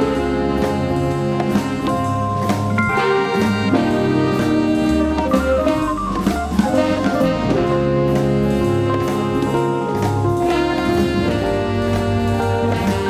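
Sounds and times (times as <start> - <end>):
jazz blues band playing: 0.0 - 13.0
steady drum beat: 0.0 - 13.0.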